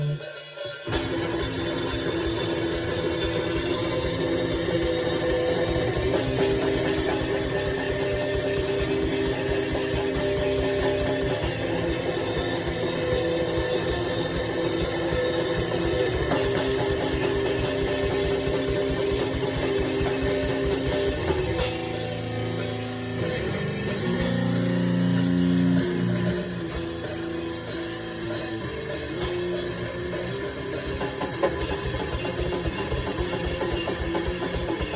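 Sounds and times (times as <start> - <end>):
distorted electric guitar riffs: 0.0 - 34.9
fast dense drumming: 0.9 - 34.9.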